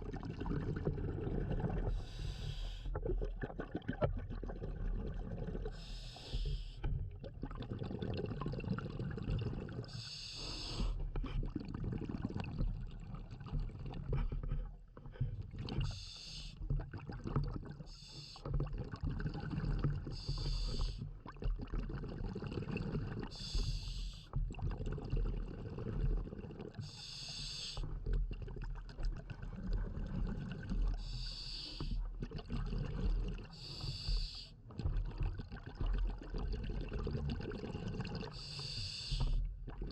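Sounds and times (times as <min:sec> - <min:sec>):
exhaled bubbles underwater: 0:00.0 - 0:39.9.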